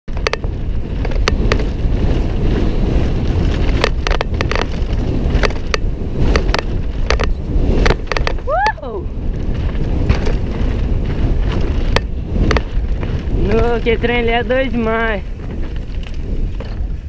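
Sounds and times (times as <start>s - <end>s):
bike rattling over stones: 0.1s - 17.0s
wind buffeting microphone: 0.1s - 17.0s.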